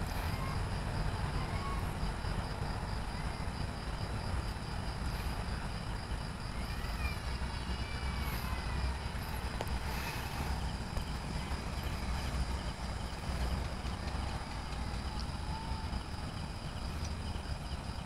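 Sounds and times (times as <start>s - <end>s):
jet engines rumbling overhead: 0.0s - 18.0s.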